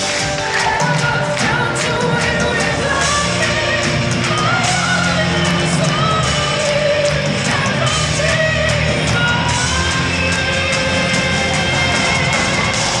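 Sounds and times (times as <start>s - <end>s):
live symphonic metal band: 0.0s - 13.0s
woman singing: 0.0s - 13.0s.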